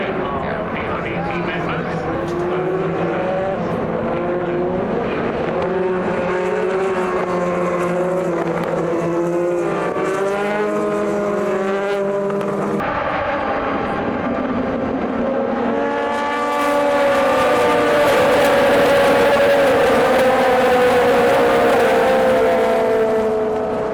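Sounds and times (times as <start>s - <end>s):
race car engines passing: 0.0s - 23.9s.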